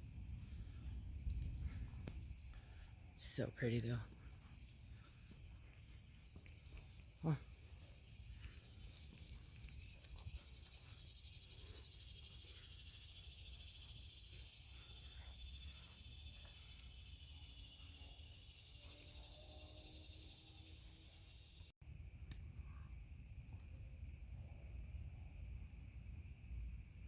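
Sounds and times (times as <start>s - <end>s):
insects trilling: 0.0s - 21.7s.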